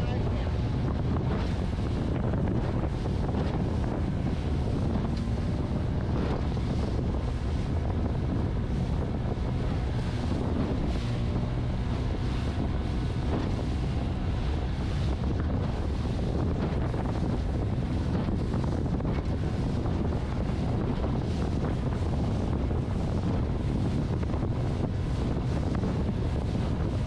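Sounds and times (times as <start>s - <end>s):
outboard motor droning: 0.0s - 27.0s
water rushing past hull: 0.0s - 27.0s
wind buffeting microphone: 0.0s - 27.0s.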